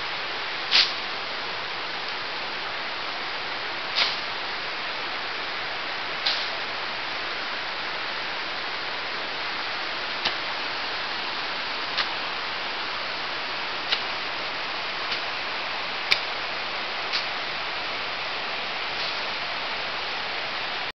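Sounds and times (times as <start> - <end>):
creek water rushing: 0.0 - 20.9.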